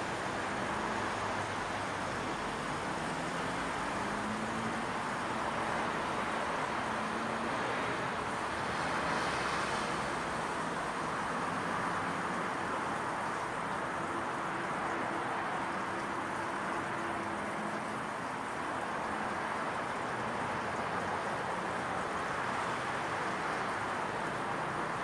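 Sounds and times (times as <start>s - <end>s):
distant road traffic hiss: 0.0s - 25.0s.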